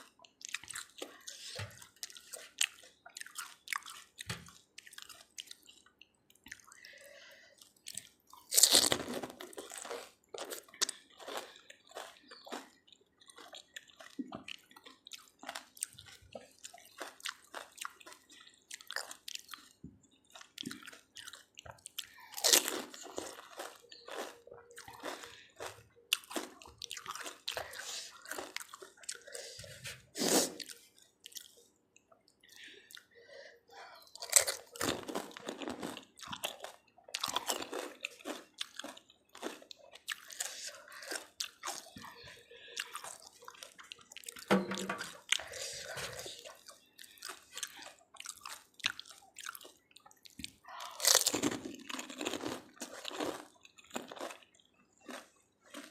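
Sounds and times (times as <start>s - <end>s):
crunching and chewing food: 0.0s - 55.9s.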